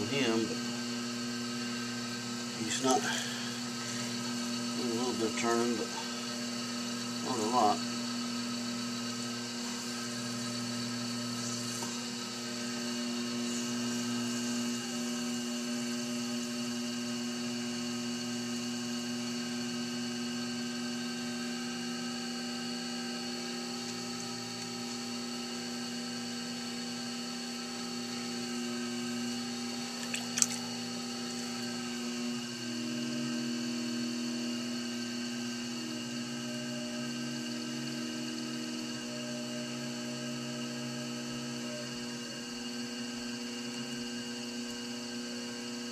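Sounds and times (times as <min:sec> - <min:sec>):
potter's wheel motor whirring: 0:00.0 - 0:45.9.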